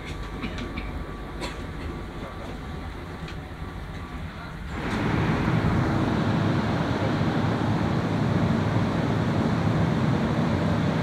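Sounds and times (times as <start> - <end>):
train carriage rumbling: 0.0 - 11.0
train rushing noise: 0.0 - 11.0.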